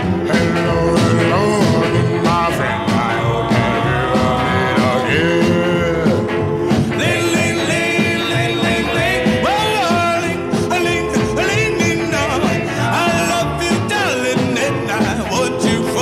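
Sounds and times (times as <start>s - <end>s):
rhythm and blues backing band: 0.0s - 16.0s
vocal group singing in harmony: 0.0s - 16.0s.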